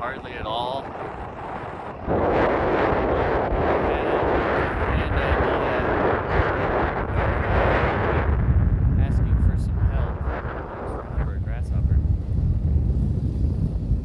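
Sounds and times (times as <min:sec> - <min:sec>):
wind buffeting on microphone: 0:00.0 - 0:14.0.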